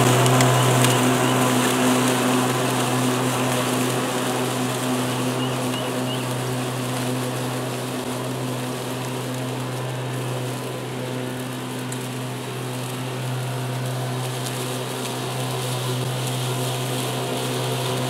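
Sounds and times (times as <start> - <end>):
electric lawn mower cutting grass: 0.0 - 18.0.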